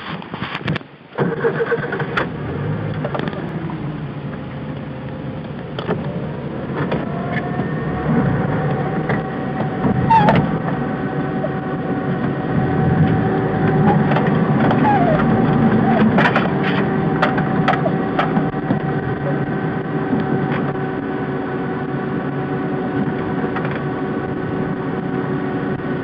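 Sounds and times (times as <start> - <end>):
knocks and rattles from bumpy ride: 0.0 - 25.3
car engine running: 1.8 - 26.0.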